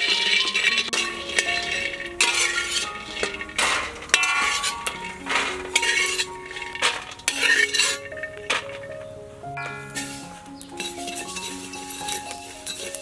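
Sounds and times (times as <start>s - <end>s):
background music held notes: 0.0s - 13.0s
metal spatula scraping wok: 0.0s - 13.0s
nuts rattling against metal: 0.0s - 13.0s.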